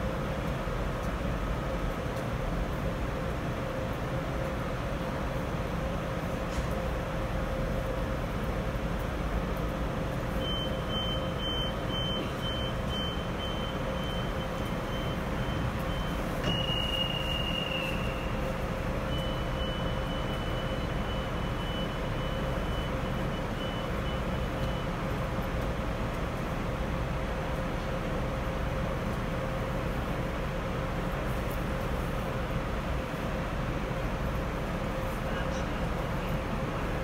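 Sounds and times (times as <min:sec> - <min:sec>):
electric locomotive hum: 0:00.0 - 0:37.0.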